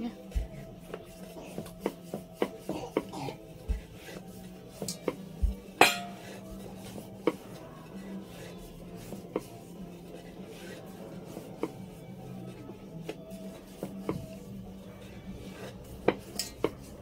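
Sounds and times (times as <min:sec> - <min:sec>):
rolling pin on wooden board: 0:00.2 - 0:07.6, 0:08.4 - 0:14.4, 0:15.4 - 0:17.0.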